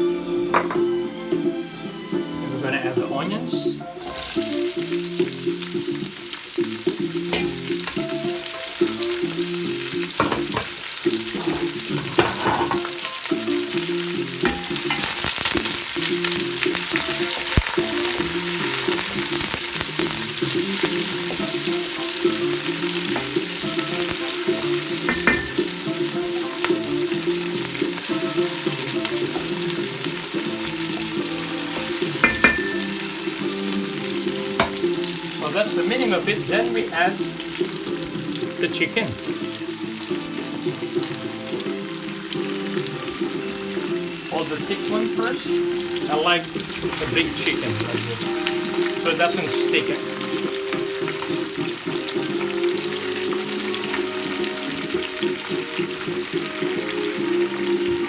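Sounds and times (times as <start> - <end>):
garlic and onions sizzling in oil: 0.0 - 58.0.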